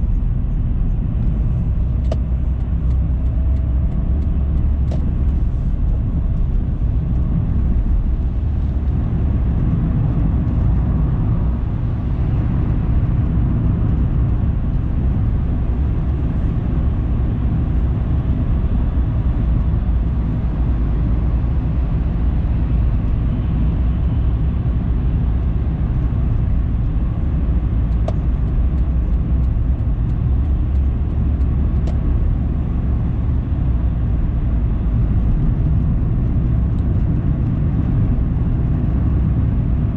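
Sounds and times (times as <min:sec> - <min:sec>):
car engine rumble: 0:00.0 - 0:39.9
tyre noise on road: 0:00.0 - 0:39.9.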